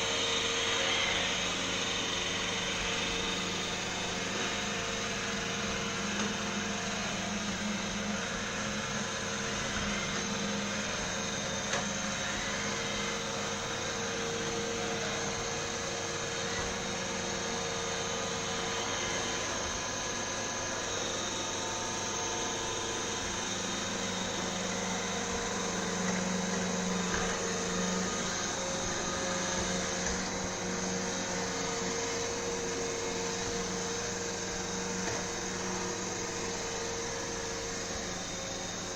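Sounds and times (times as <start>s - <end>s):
robot vacuum running: 0.0s - 38.9s.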